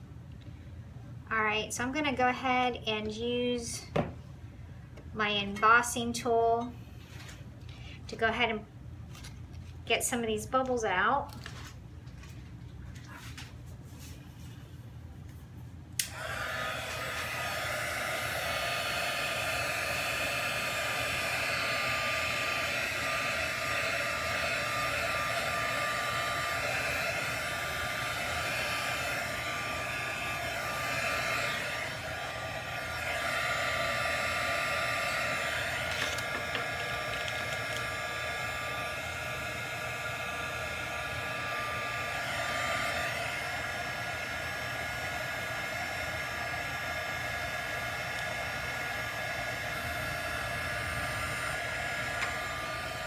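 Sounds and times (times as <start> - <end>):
heat tool fan whine: 0.0 - 53.0.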